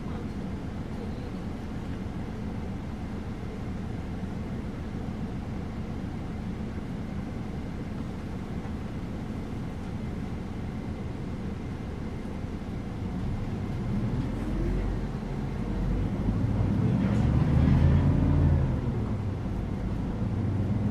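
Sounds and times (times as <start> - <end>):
bus engine hum and road rumble: 0.0 - 20.9.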